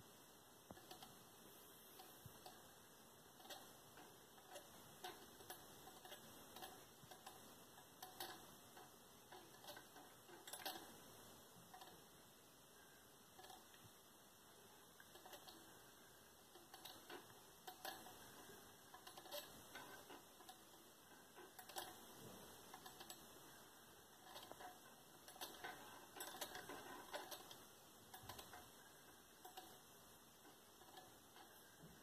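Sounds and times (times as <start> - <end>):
wire ticking and scraping on magnet: 0.6 - 14.1, 14.8 - 32.0.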